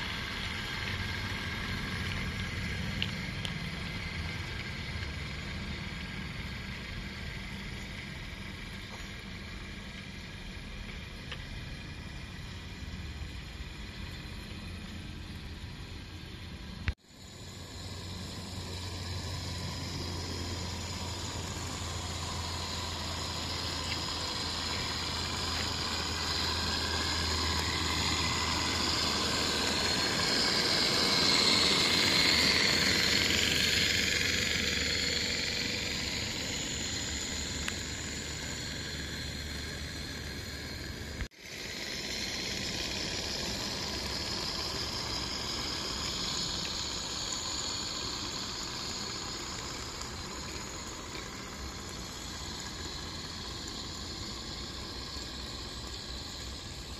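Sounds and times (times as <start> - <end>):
steam locomotive hissing: 0.0 - 56.9.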